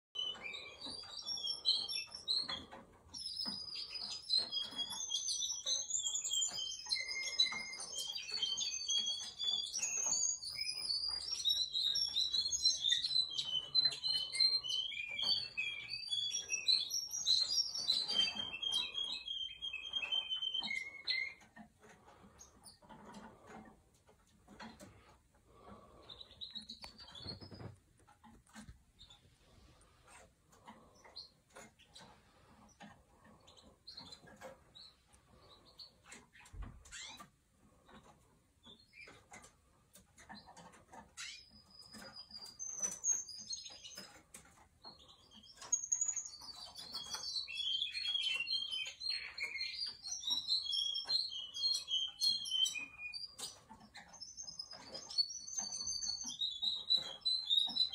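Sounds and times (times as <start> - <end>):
canary singing trills: 0.1 - 57.9.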